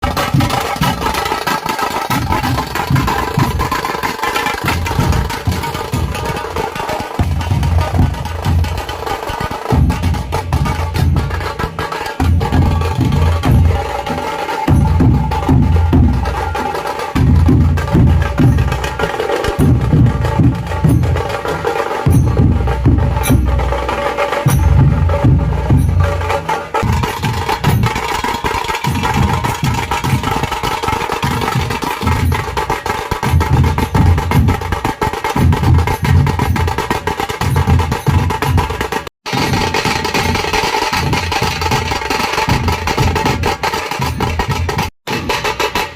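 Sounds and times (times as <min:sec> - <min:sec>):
heavy barrel drum strokes: 0:00.0 - 0:45.9.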